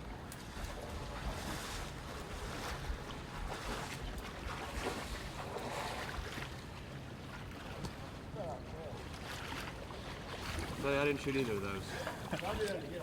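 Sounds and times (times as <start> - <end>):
water sloshing from wading: 0.0 - 13.0.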